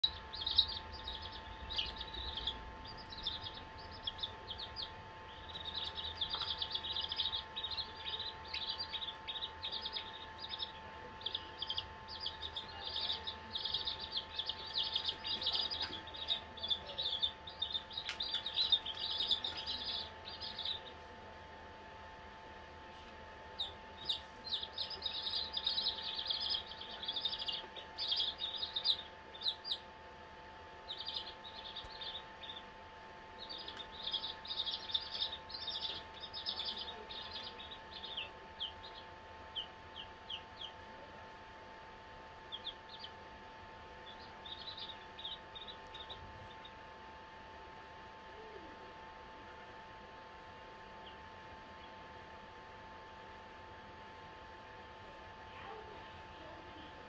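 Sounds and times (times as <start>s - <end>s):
chicks peeping: 0.0s - 57.0s
faint steady hum: 0.0s - 57.0s.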